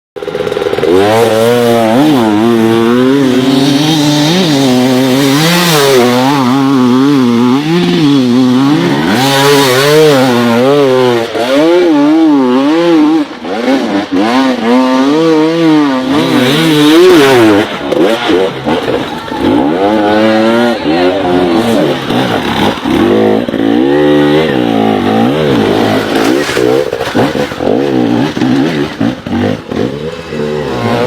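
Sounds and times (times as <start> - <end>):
dirt bike engine revving: 0.2 - 31.0.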